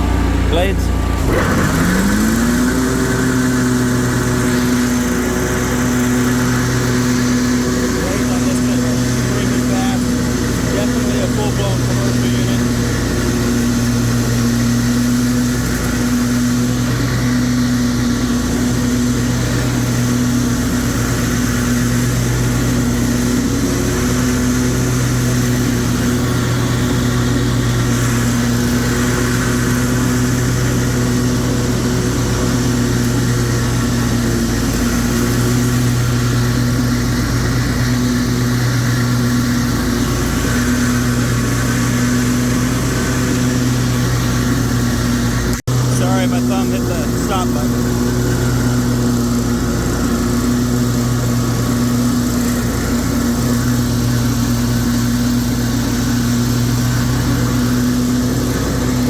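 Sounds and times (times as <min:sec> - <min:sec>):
lawn mower running: 0:00.0 - 0:59.0.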